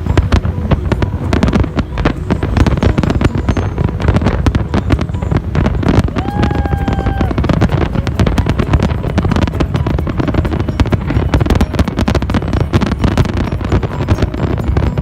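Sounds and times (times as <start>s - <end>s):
fireworks crackling pops: 0.0s - 15.0s
low rumble: 0.0s - 15.0s.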